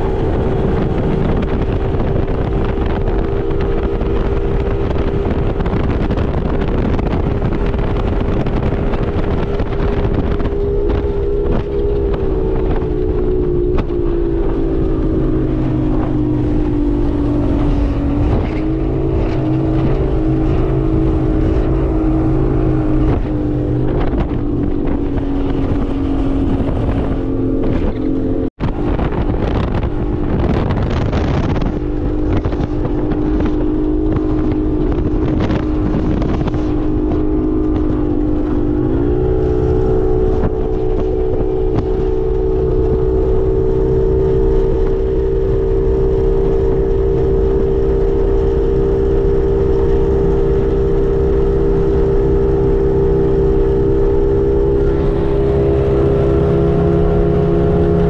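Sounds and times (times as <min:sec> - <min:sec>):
speedboat outboard motor running: 0:00.0 - 0:58.0
wind and water rushing: 0:00.0 - 0:58.0.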